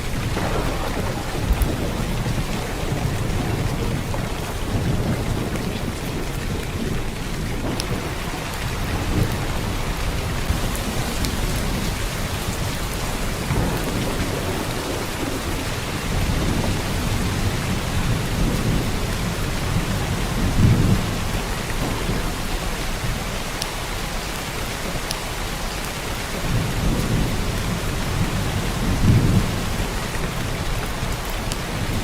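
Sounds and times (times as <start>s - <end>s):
heavy rain downpour: 0.0s - 32.0s
low thunder rumble: 0.0s - 32.0s.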